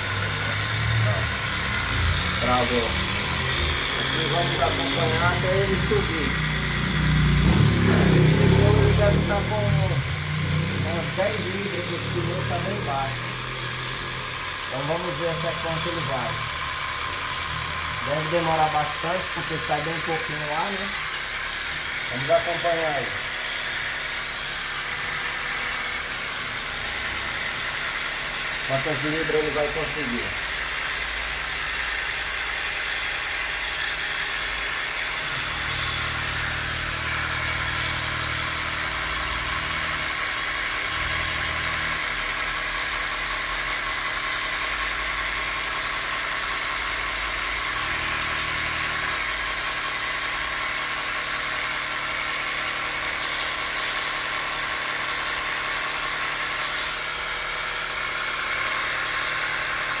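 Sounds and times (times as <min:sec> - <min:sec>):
air compressor whirring: 0:00.0 - 1:00.0.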